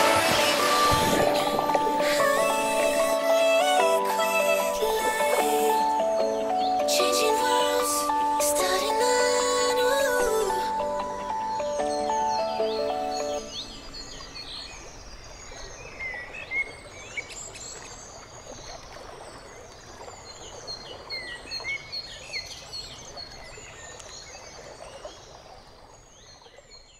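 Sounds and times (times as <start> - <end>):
birds chirping: 0.0 - 25.3.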